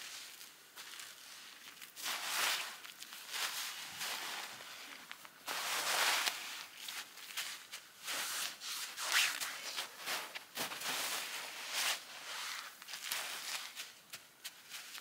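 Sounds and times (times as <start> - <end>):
hands scooping and packing snow: 0.0 - 15.0.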